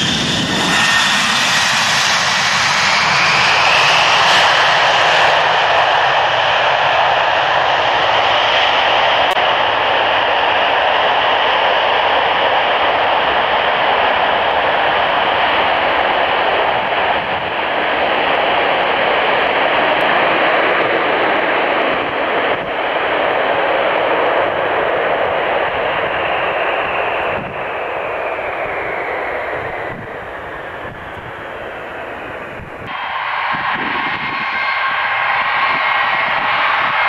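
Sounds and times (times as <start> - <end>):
jet engines roaring on landing: 0.0 - 37.0.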